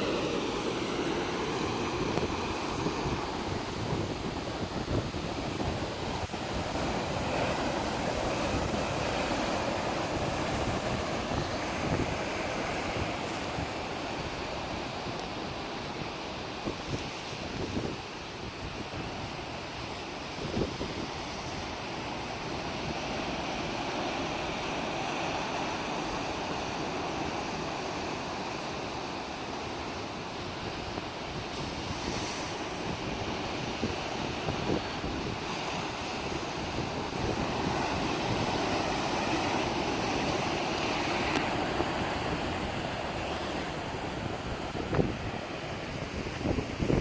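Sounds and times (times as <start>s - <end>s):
wind buffeting microphone: 0.0s - 28.6s, 30.5s - 47.0s
sea waves washing on shore: 0.0s - 47.0s.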